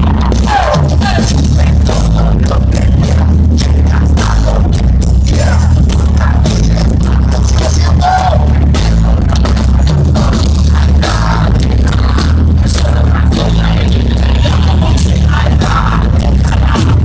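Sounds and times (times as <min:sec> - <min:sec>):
drums: 0:00.0 - 0:17.0
heavy metal band playing live: 0:00.0 - 0:17.0
pounding bass line: 0:00.0 - 0:17.0.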